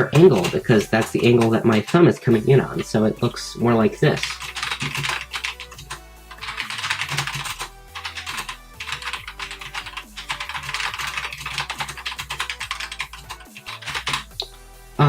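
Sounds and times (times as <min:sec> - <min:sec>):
fast mechanical keyboard typing: 0:00.0 - 0:03.4, 0:04.0 - 0:14.5.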